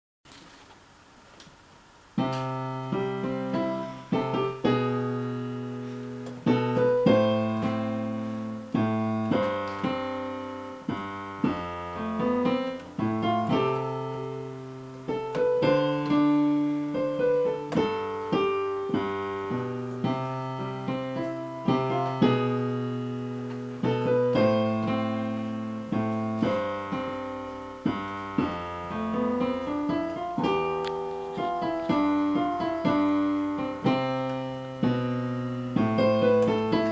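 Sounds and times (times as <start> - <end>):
digital piano playing: 2.2 - 36.9.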